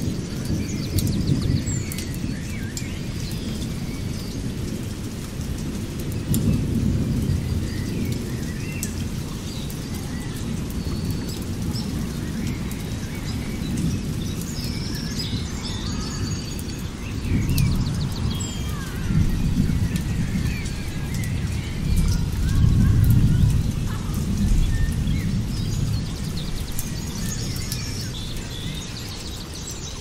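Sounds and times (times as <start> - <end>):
small birds chirping and trilling: 0.0 - 30.0.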